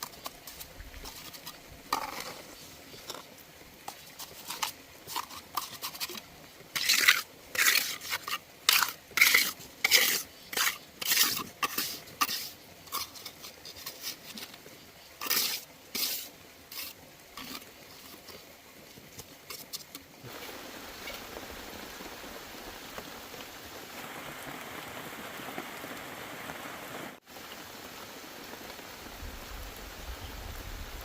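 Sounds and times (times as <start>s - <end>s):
rain tapping and pattering: 0.0s - 31.0s.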